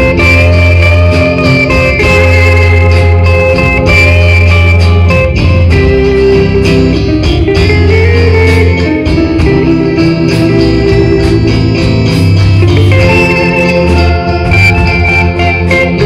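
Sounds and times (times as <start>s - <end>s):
electric guitar long held notes: 0.0s - 16.0s
live band instrumental: 0.0s - 16.0s.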